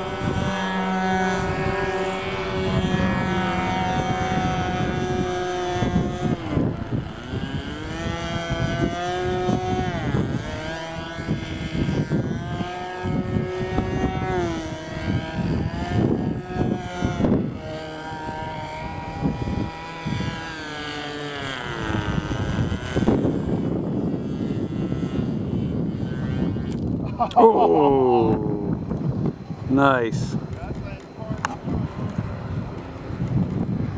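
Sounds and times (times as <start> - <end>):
model airplane engine running: 0.0 - 33.9.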